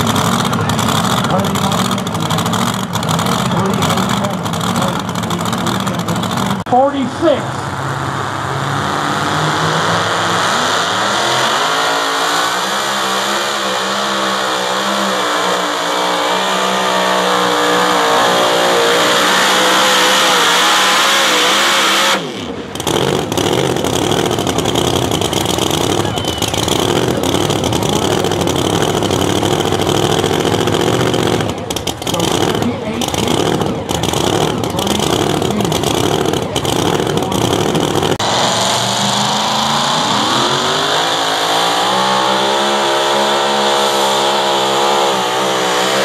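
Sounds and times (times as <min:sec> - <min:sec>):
engine at full throttle: 0:00.0 - 0:46.0
rough noisy engine: 0:00.0 - 0:46.0.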